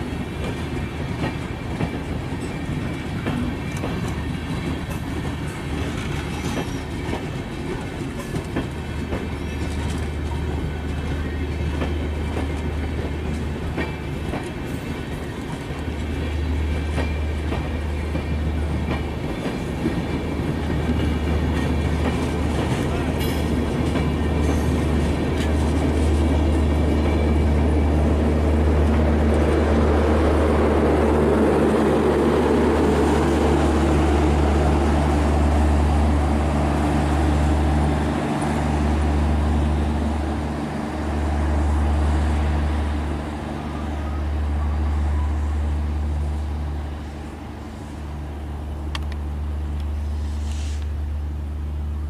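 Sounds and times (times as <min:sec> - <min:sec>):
train rumbling past: 0:00.0 - 0:52.0.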